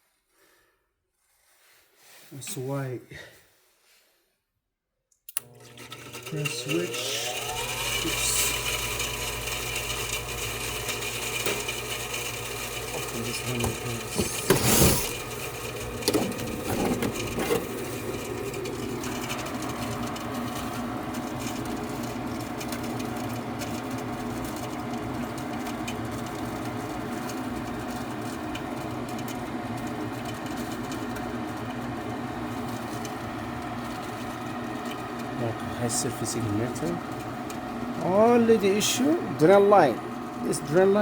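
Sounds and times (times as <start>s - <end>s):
gas furnace motors humming: 5.4s - 41.0s.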